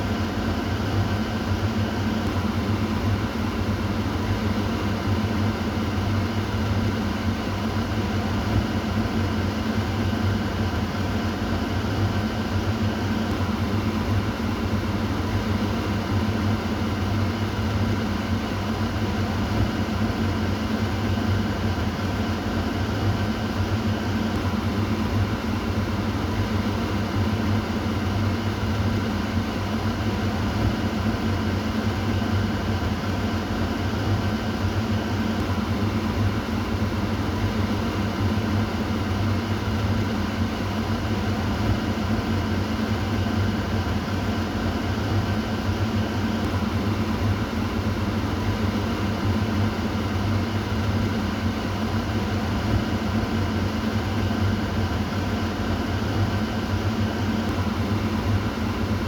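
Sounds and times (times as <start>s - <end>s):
exhaust fan humming: 0.0s - 59.0s.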